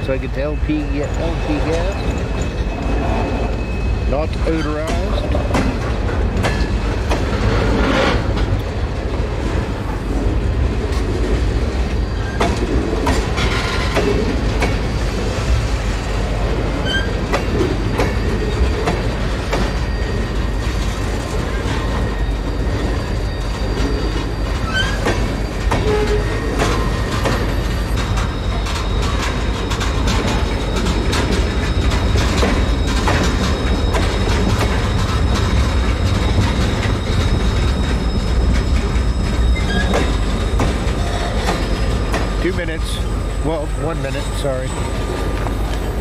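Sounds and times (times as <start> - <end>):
high wheel squeal: 0.0 - 8.4, 11.5 - 46.0
train wheels rumbling on rail: 0.0 - 46.0
wheels clanking over rail joints: 0.0 - 46.0.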